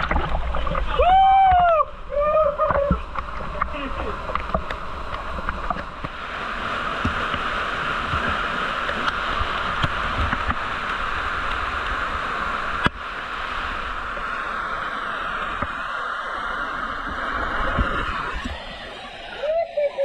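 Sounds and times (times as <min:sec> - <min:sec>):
river water rushing over rocks: 0:00.0 - 0:20.0.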